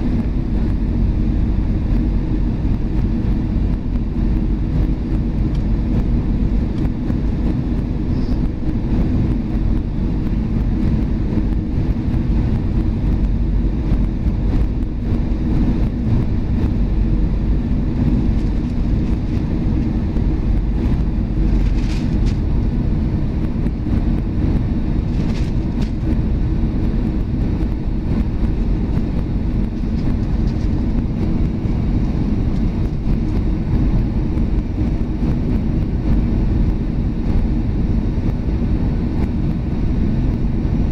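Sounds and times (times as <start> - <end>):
low rumble of engines and airflow: 0.0 - 40.9.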